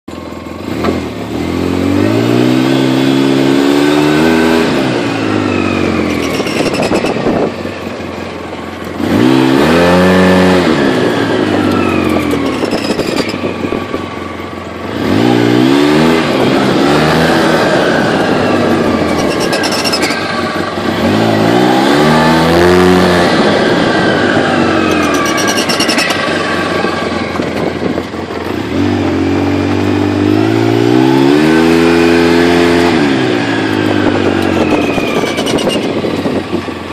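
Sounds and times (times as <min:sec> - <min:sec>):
engine revving: 0:00.6 - 0:08.1, 0:08.8 - 0:36.9.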